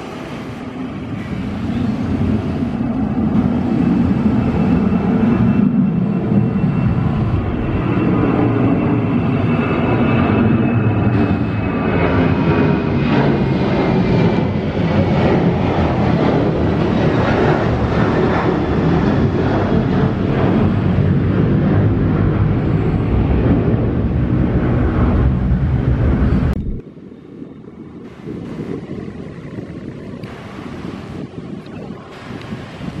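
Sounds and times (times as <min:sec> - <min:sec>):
jet engines roaring: 0:00.0 - 0:33.0
wind noise on microphone: 0:00.0 - 0:33.0.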